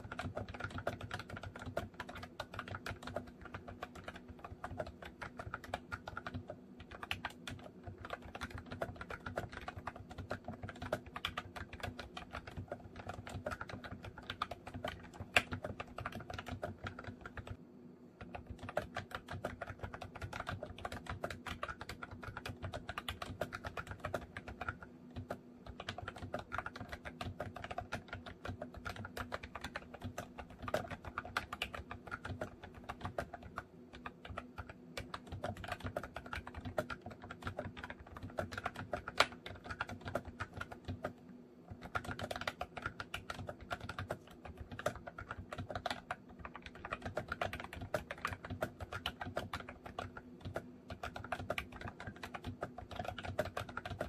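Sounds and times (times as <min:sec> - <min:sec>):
keyboard typing clicks: 0:00.0 - 0:17.6, 0:18.2 - 0:54.0
faint steady hum: 0:00.0 - 0:54.0.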